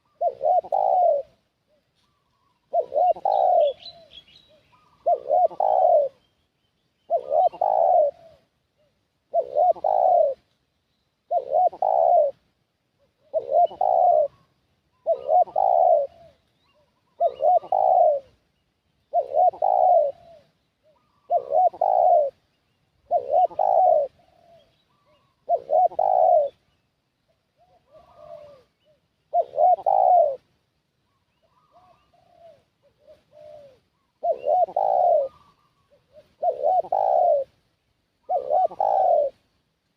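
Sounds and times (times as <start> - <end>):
dove cooing: 0.0 - 6.3, 7.1 - 10.5, 11.2 - 39.6.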